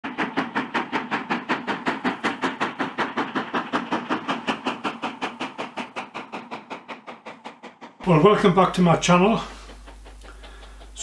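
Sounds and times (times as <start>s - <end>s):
steam locomotive exhaust chuffing: 0.0s - 11.0s.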